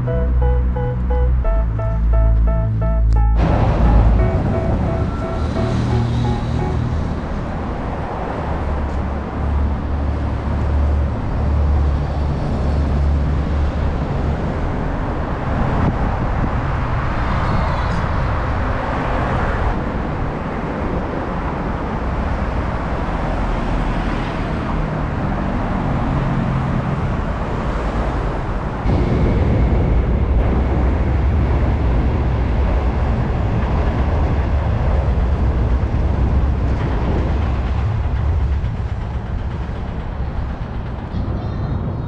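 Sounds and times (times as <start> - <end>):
road traffic rumble: 0.0 - 41.9.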